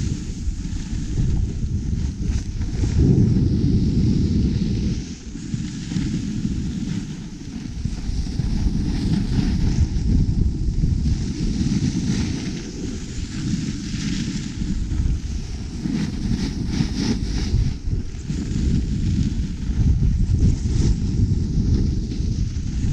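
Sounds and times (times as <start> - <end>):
skis carving on snow: 0.0 - 22.9
wind buffeting microphone: 0.0 - 22.9.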